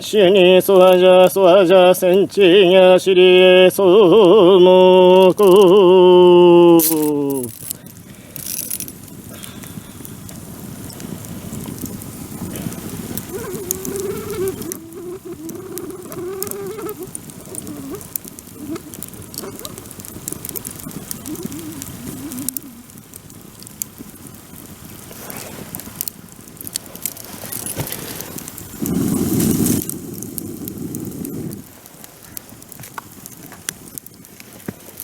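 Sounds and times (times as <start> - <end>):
bonfire crackling and popping: 0.0 - 35.0.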